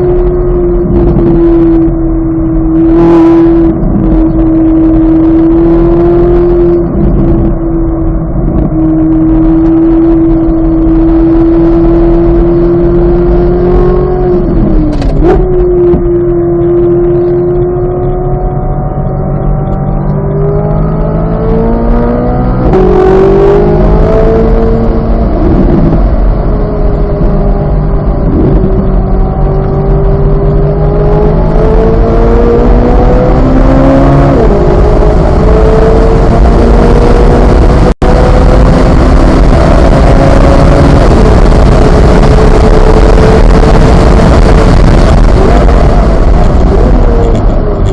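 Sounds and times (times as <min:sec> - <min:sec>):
sports car engine running hard: 0:00.0 - 0:47.9.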